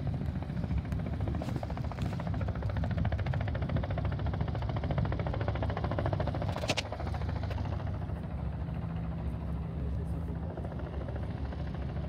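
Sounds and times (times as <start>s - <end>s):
light plane engine buzzing: 0.0s - 12.0s.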